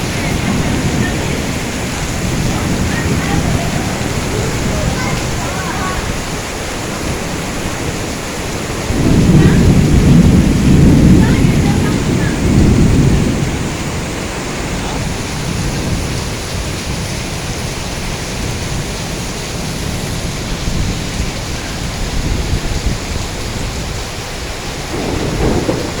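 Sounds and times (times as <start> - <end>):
deep thunder rumble: 0.0 - 26.0
heavy rain falling: 0.0 - 26.0.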